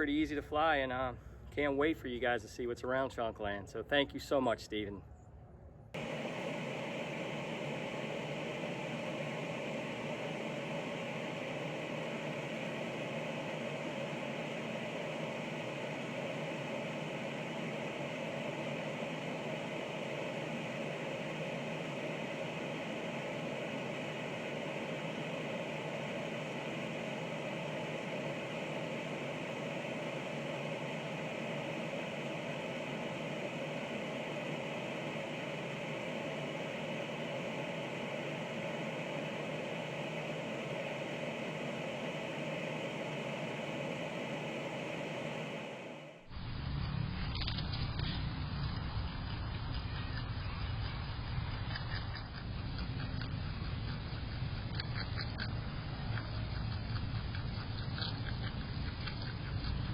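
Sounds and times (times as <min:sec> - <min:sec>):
drone propellers whirring: 0:06.0 - 0:59.9.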